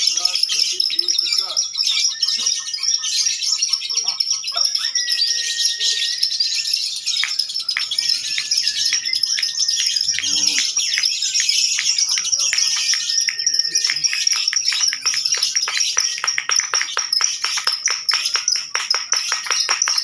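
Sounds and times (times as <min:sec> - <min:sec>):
lovebirds chattering trill: 0:00.0 - 0:20.0.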